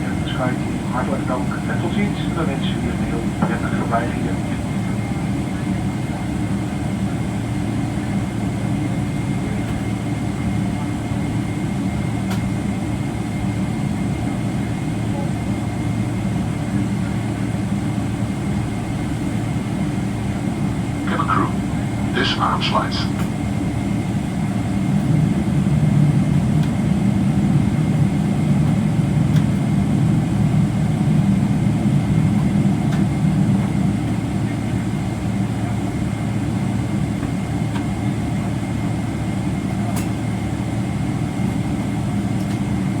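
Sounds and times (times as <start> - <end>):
airliner cabin hum: 0.0 - 43.0.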